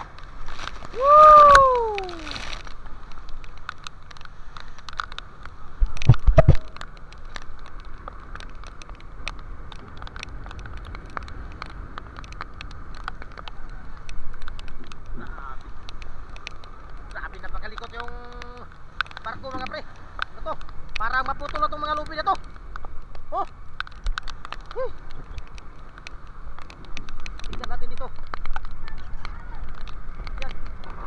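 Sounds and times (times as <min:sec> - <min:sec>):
rough sea: 0:00.0 - 0:31.0
wind: 0:00.0 - 0:31.0.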